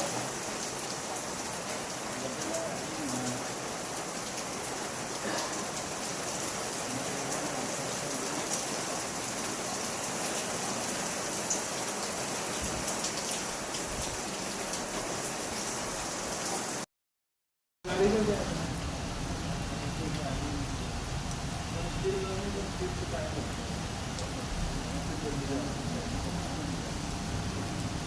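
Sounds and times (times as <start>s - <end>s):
rain falling hiss: 0.0s - 16.9s, 17.9s - 28.0s.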